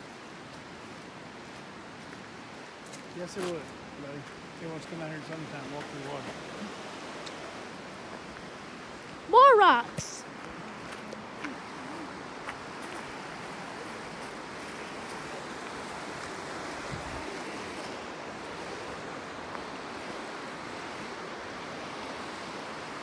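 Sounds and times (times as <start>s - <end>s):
stream water rushing over rocks: 0.0s - 23.0s.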